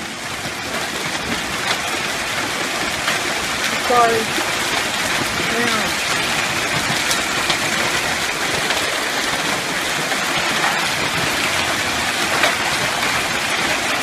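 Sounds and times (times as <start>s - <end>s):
hail pelting down: 0.0s - 14.0s
hailstones cracking: 0.0s - 14.0s.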